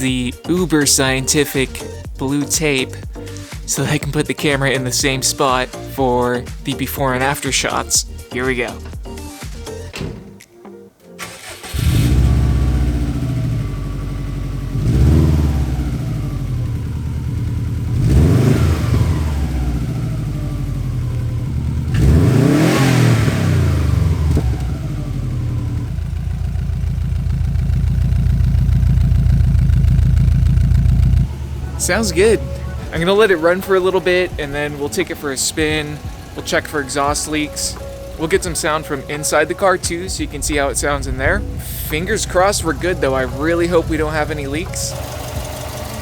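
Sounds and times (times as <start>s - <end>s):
car engine revving: 0.0s - 10.0s, 11.2s - 46.0s
car engine idling: 0.0s - 10.2s, 11.2s - 46.0s
car engine starting: 0.0s - 10.4s, 11.1s - 46.0s.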